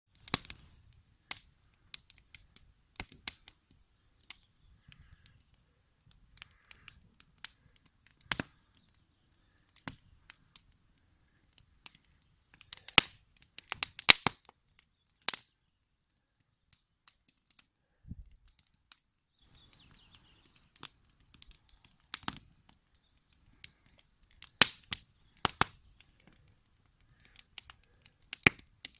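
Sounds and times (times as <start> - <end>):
campfire crackling: 0.1 - 28.9.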